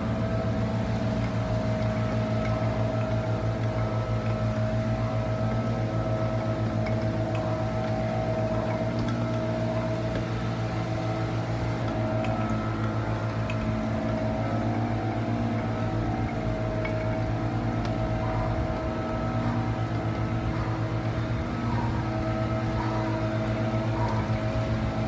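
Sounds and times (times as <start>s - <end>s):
low mechanical motor hum: 0.0s - 25.0s.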